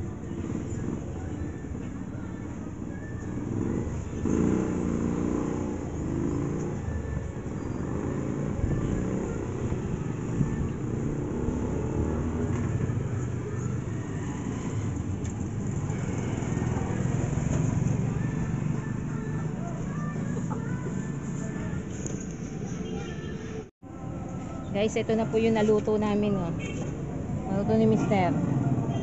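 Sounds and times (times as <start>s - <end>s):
road traffic rumble: 0.0s - 29.0s
vehicle engine running nearby: 0.0s - 29.0s.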